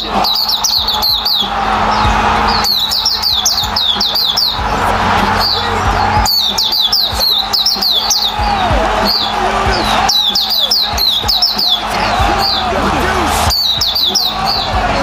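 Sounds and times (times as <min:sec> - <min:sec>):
bird singing high chirps: 0:00.0 - 0:04.6, 0:05.3 - 0:12.7, 0:13.5 - 0:14.8.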